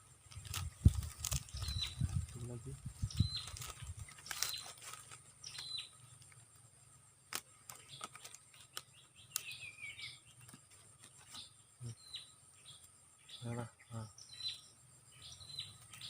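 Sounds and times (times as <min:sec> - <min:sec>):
birdsong: 0:00.0 - 0:16.0.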